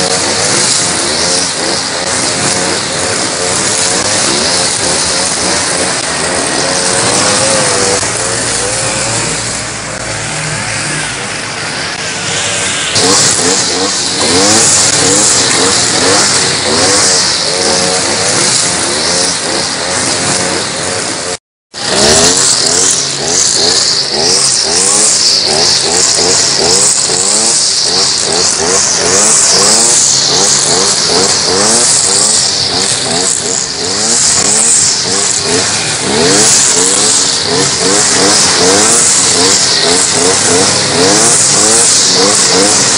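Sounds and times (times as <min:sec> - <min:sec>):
brush cutter engines revving: 0:00.0 - 0:42.9.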